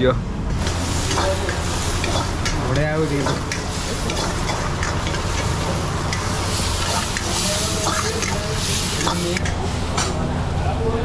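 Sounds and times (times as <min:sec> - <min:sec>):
food sizzling in a wok: 0:00.6 - 0:09.9
metal ladle scraping wok: 0:00.6 - 0:10.0.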